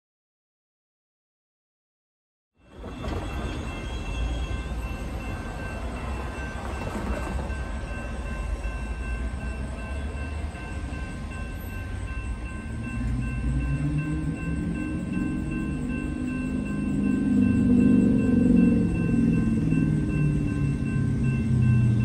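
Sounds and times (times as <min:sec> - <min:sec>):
faint steady tones: 0:02.6 - 0:22.0
freight train rumbling: 0:02.6 - 0:22.0
music: 0:02.6 - 0:22.0.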